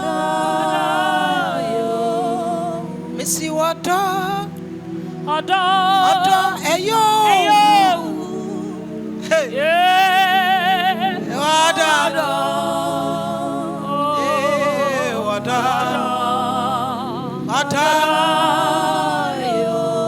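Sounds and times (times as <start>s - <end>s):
person singing with vibrato: 0.0s - 4.6s, 5.3s - 20.0s
sustained accompaniment: 0.0s - 20.0s.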